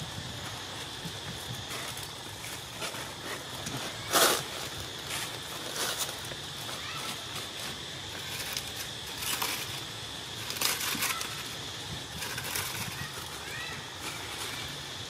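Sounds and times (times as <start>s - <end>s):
faint high hum: 0.0s - 15.0s
dry leaves crackling and rustling: 0.2s - 15.0s.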